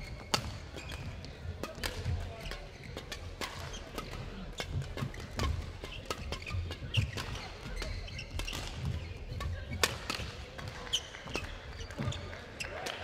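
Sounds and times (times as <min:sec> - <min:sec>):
shoe squeaks: 0:00.0 - 0:12.8
rackets hitting shuttlecock: 0:00.0 - 0:13.0.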